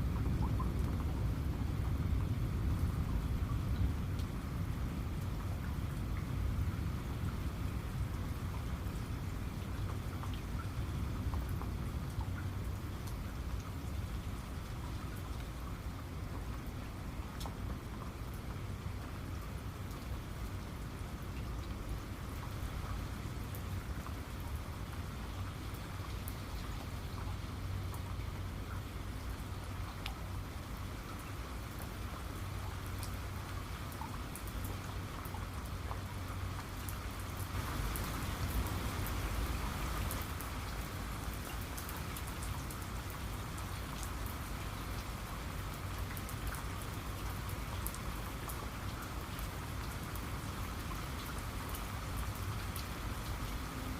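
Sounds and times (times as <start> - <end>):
rain falling: 0.0 - 53.9
raindrops ticking on a surface: 0.0 - 53.9.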